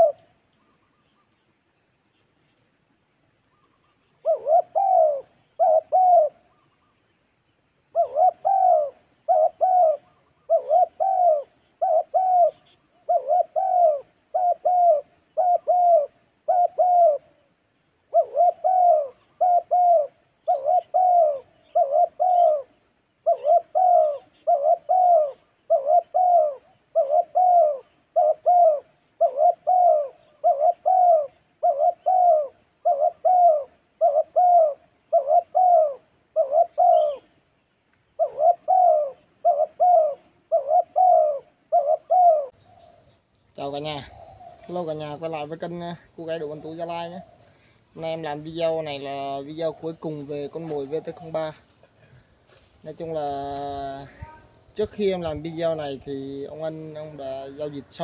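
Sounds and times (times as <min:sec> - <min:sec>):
dove cooing: 0:00.0 - 0:01.3, 0:03.5 - 0:07.0, 0:07.9 - 0:58.0.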